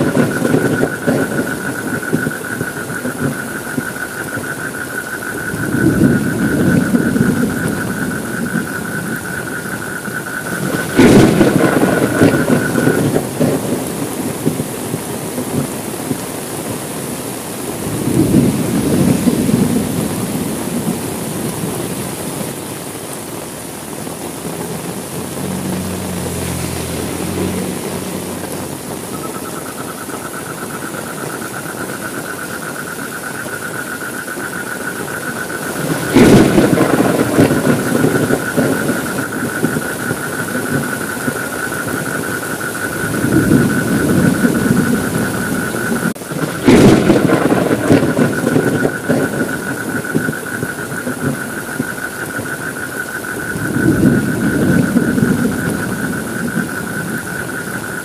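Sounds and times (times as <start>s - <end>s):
thunder cracks and rumbling: 0.0s - 22.6s, 24.1s - 32.0s, 33.7s - 58.0s
heavy rain: 0.0s - 58.0s.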